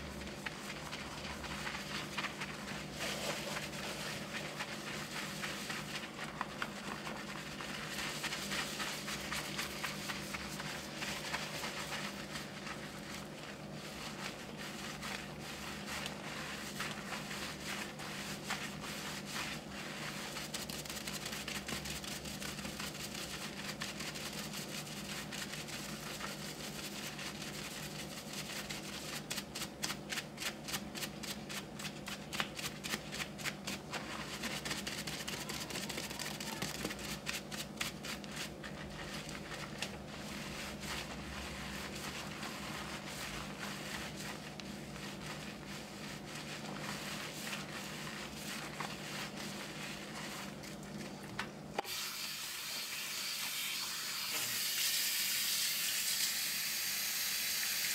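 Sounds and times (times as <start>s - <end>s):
fingertips scrubbing lathered hair: 0.0s - 54.8s.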